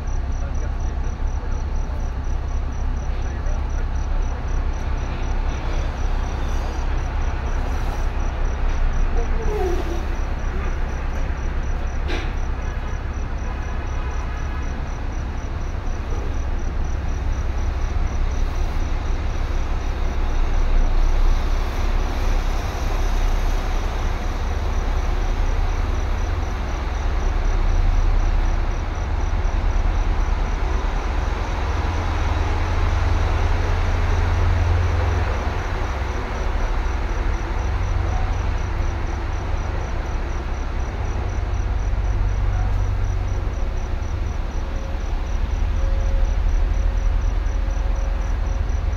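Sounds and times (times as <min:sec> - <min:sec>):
vehicle road rumble: 0:00.0 - 0:48.9.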